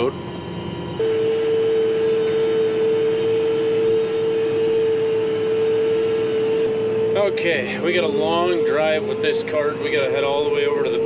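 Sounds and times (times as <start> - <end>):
steady single-pitched tone: 0.0 - 11.0
tractor engine running: 0.0 - 11.0.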